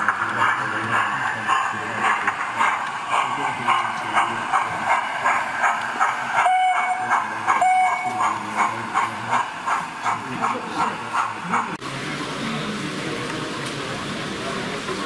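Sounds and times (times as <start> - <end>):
model steam locomotive chuffing: 0.0 - 15.0
steady background noise: 0.0 - 15.0.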